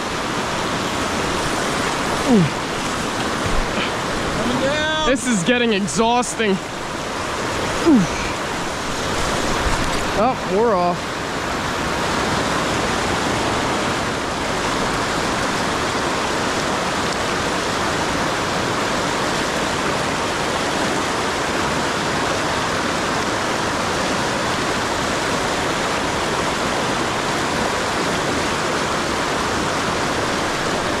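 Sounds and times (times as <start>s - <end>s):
river flowing over rocks: 0.0s - 31.0s.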